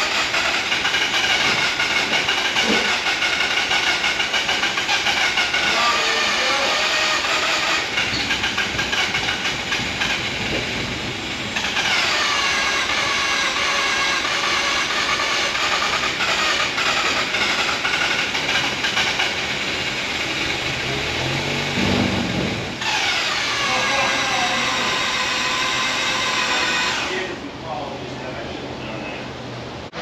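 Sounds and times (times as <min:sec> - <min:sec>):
engine cranking on starter: 0:00.0 - 0:27.4.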